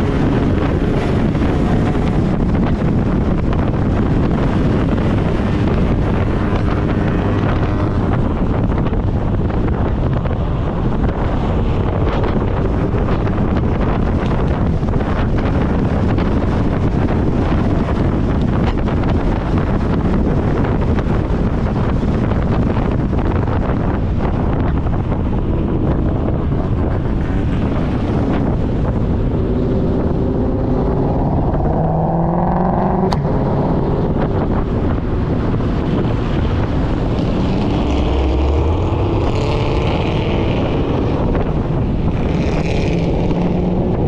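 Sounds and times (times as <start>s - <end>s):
steady low rumble: 0.0s - 44.0s
wind buffeting microphone: 0.0s - 44.0s.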